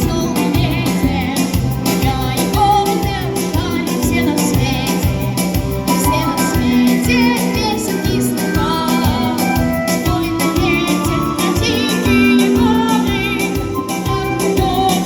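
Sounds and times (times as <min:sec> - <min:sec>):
pop backing track: 0:00.0 - 0:15.0.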